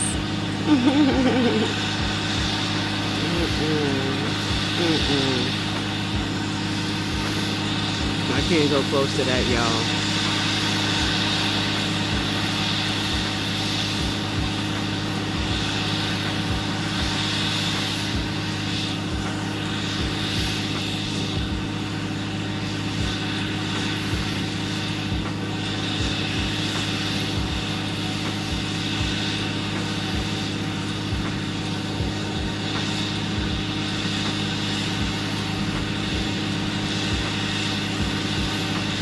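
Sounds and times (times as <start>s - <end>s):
drilling rig engine drone: 0.0s - 39.0s
hiss: 0.0s - 39.0s.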